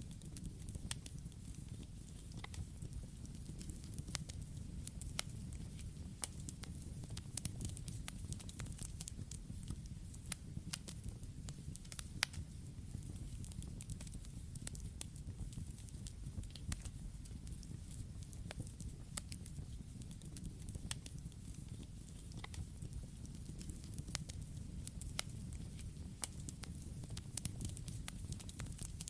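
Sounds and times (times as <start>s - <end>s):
burning wood popping and crackling: 0.0s - 29.0s
low rumble of flames: 0.0s - 29.0s.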